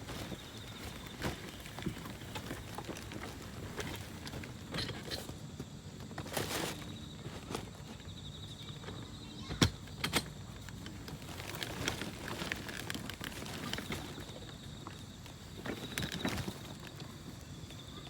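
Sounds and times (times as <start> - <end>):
camping gear clicks and rustles: 0.0 - 18.0.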